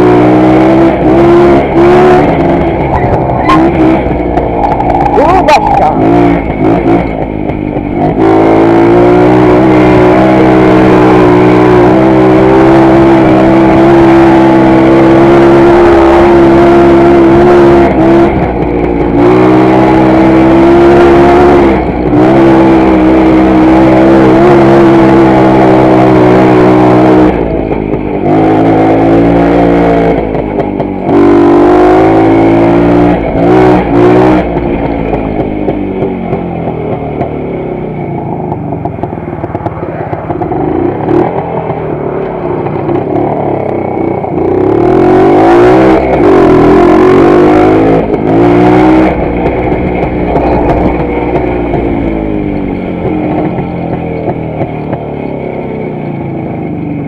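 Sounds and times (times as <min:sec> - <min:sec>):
two-stroke motorcycle engine: 0:00.0 - 0:57.0.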